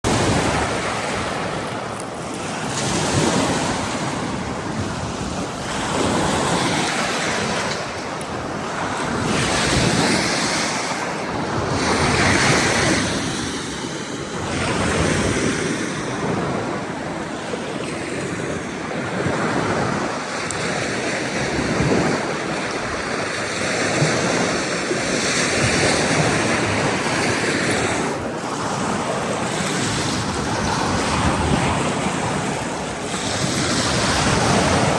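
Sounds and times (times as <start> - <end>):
ocean surf breaking on beach: 0.0 - 34.9
wind on microphone: 0.0 - 34.9.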